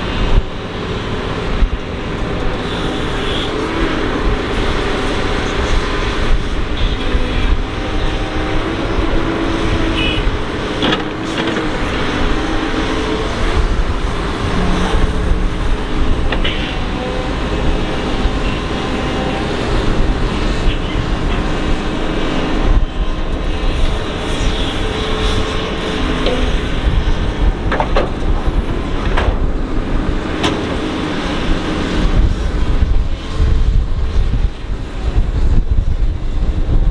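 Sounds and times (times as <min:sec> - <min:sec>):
excavator diesel engine under load: 0:00.0 - 0:36.9.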